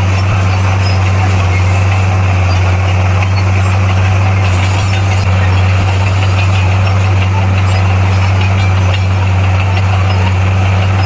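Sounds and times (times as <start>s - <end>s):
bulldozer diesel engine drone: 0.0s - 11.0s.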